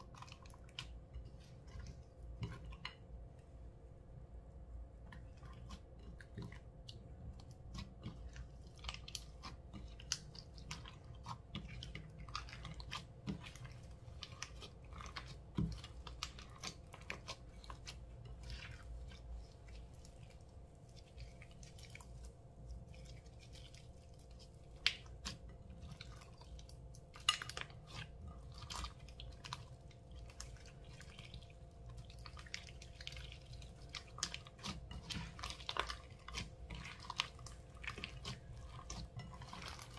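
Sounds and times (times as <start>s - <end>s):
slime being squished: 5.0s - 39.9s.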